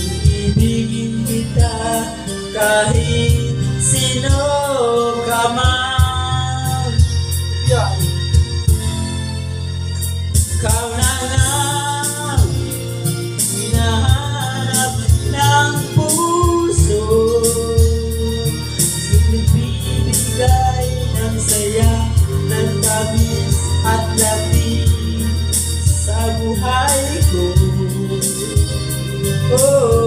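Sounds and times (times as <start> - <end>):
man singing a slow song: 0.0 - 9.0, 10.4 - 30.0
backing track with beat and bass: 0.0 - 30.0.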